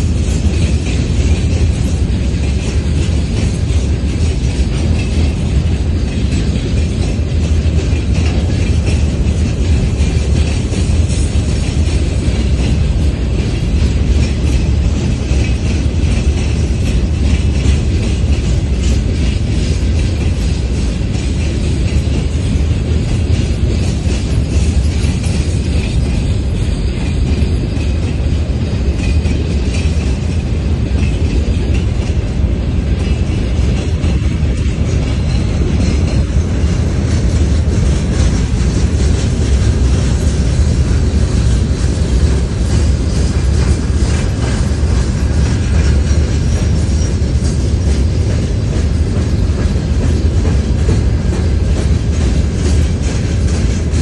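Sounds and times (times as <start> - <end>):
freight train rumble: 0.0 - 54.0
wheels clicking over rail joints: 0.0 - 54.0.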